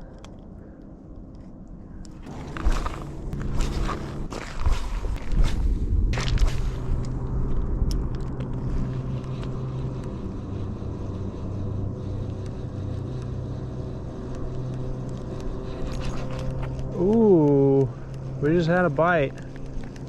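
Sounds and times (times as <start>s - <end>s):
low rumble: 1.2s - 20.0s
motor humming: 2.0s - 20.0s.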